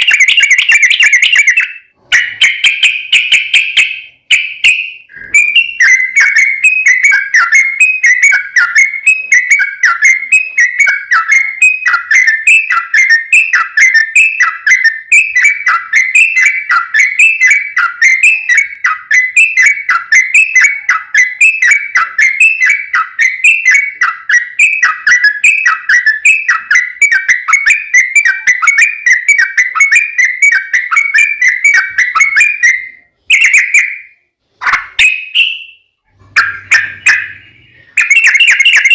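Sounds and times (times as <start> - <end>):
bulbul singing rapid chattering notes: 0.0 - 38.9.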